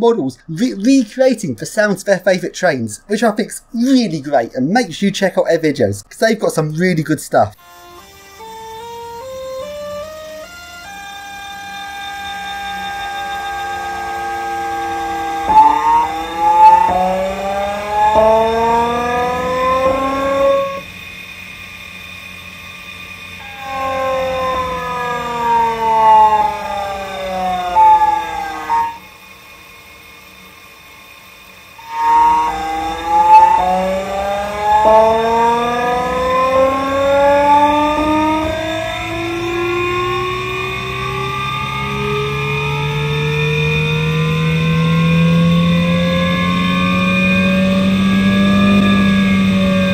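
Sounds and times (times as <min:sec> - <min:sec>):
faint hum: 0:00.0 - 0:47.0
electric motor multi-tone whine: 0:07.6 - 0:49.9.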